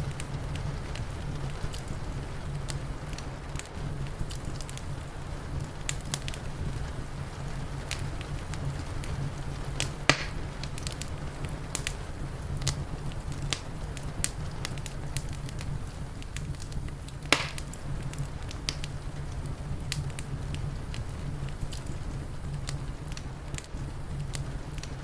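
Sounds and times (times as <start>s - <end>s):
low steady rumble: 0.0s - 25.0s
wood fire crackling and popping: 0.0s - 25.0s.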